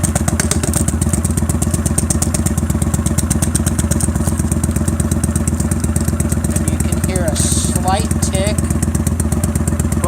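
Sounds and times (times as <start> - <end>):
engine idling through exhaust: 0.0 - 10.0
slight exhaust tick: 0.0 - 10.0.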